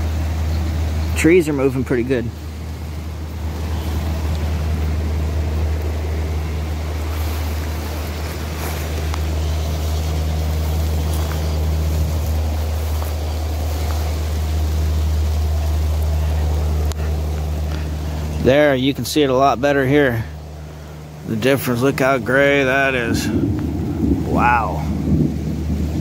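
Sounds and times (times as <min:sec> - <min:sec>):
low thunder rumble: 0:00.0 - 0:26.0
wind rushing through trees: 0:00.0 - 0:26.0.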